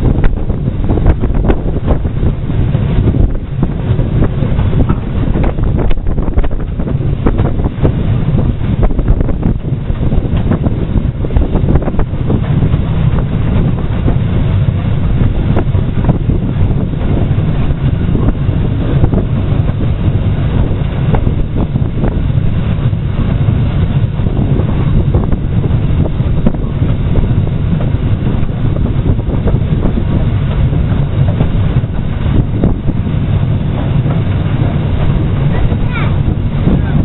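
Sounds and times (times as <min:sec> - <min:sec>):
train wheels rumbling on track: 0:00.0 - 0:37.0
wind on microphone: 0:00.0 - 0:37.0.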